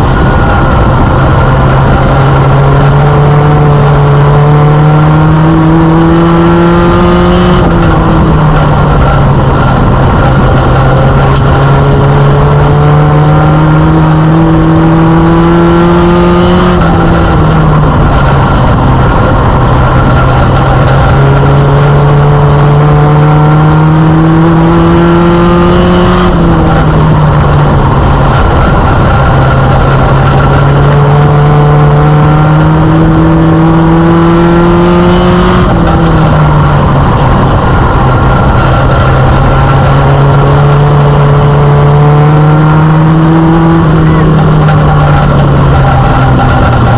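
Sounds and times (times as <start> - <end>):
race car engine revving: 0.0 - 46.9.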